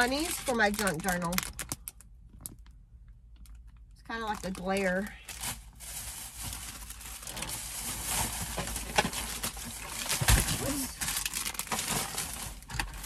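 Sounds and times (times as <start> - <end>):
plastic bag rustling and crinkling: 0.0 - 2.6, 4.3 - 13.0.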